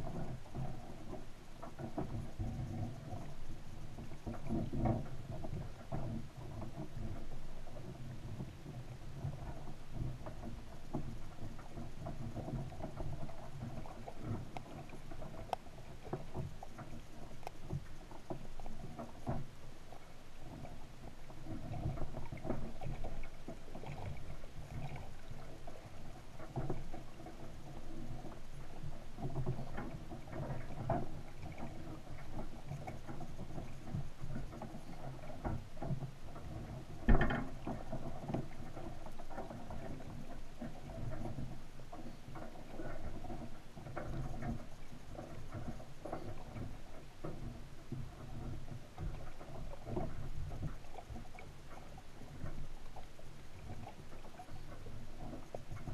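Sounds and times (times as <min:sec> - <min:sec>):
clicks and small knocks: 0:00.0 - 0:55.9
muffled underwater hum: 0:00.0 - 0:55.9.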